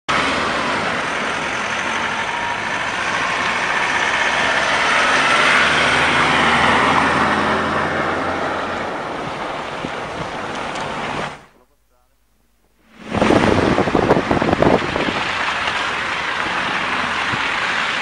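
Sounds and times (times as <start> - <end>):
tyre noise on snowy road: 0.1 - 11.6, 12.8 - 18.0
vehicle engine running: 0.1 - 11.7, 12.4 - 18.0.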